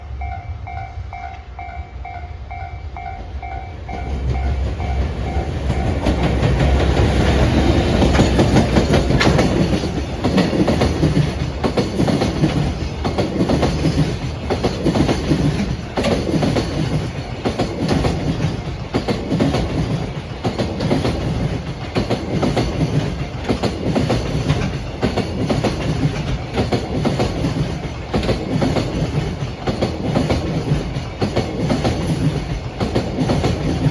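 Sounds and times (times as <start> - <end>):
train rushing past: 0.0 - 33.9
wheels clattering over rail joints: 4.0 - 33.9.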